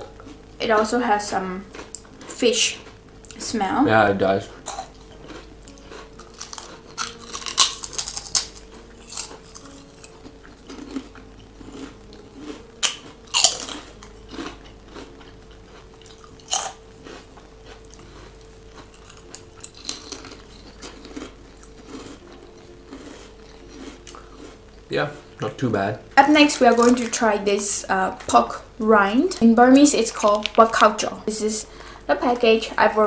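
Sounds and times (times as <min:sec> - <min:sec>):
crunching crispy crackers: 0:00.0 - 0:32.5.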